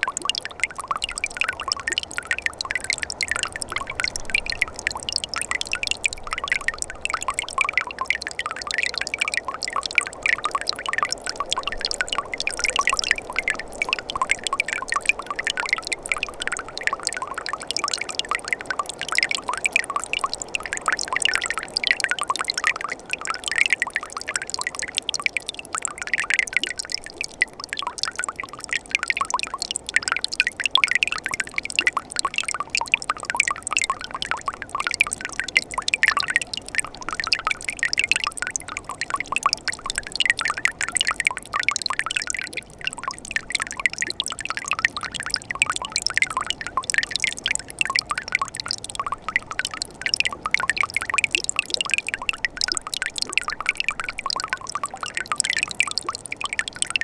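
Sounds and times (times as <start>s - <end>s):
stream water trickling and splashing: 0.0s - 57.0s.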